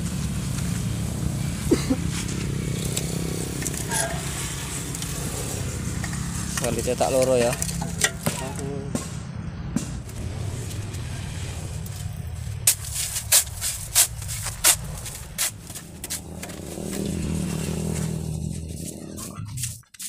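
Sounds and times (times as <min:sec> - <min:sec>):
low mechanical hum: 0:00.0 - 0:06.6, 0:07.5 - 0:19.8
shovel scraping and chopping sand: 0:00.0 - 0:09.1, 0:09.8 - 0:20.0.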